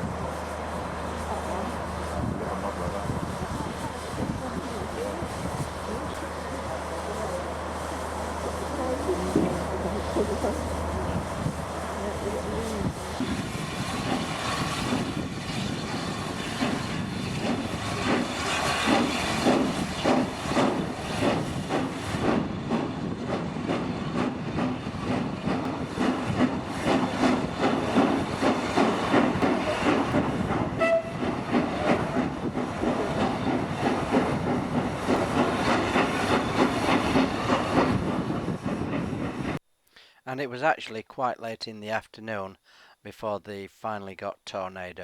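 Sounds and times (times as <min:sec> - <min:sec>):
steam hissing: 0:00.0 - 0:39.5
steam locomotive beats and clanking: 0:00.0 - 0:39.6.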